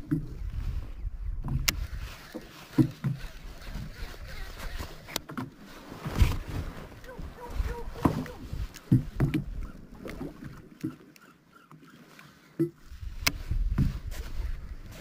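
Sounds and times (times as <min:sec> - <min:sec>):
water slapping against boat hull: 0:01.3 - 0:11.8, 0:12.6 - 0:15.0.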